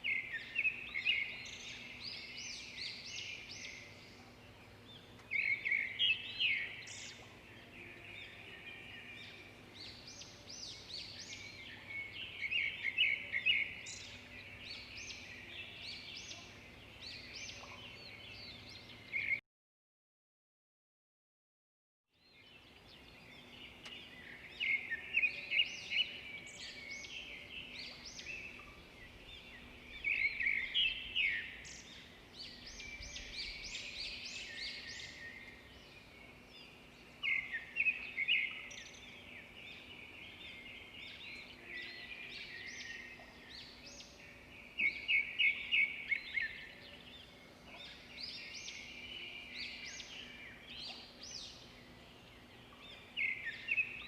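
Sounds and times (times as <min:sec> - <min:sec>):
birds chirping and singing: 0:00.0 - 0:19.4, 0:22.2 - 0:54.0.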